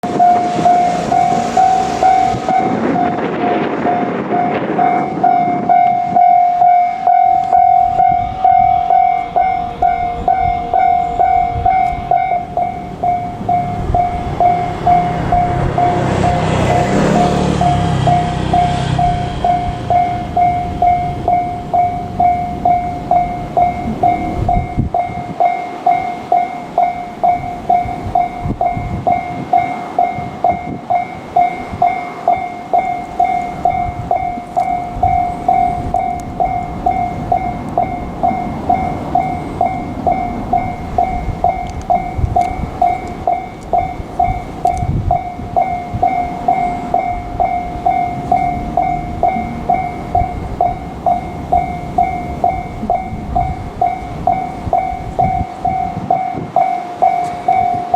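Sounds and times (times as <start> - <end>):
freight train rumbling past: 0.0 - 57.9
level-crossing bell ringing: 0.0 - 57.9
train wheel clatter: 0.0 - 57.9.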